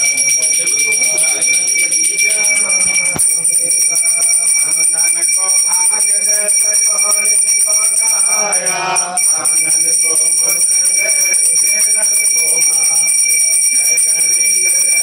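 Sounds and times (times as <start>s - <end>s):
people singing: 0.0s - 13.1s
bell ringing rapidly: 0.0s - 15.0s.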